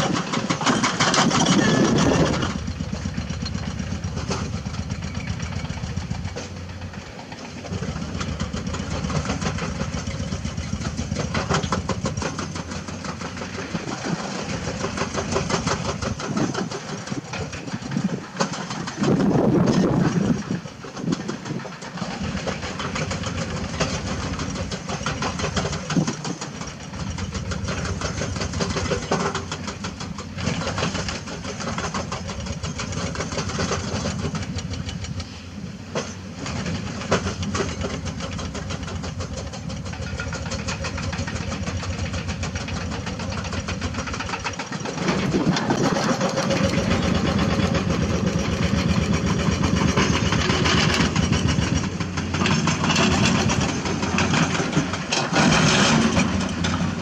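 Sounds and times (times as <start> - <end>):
clanks and knocks: 0.0 - 35.3, 35.9 - 57.0
excavator diesel engine running: 0.0 - 57.0.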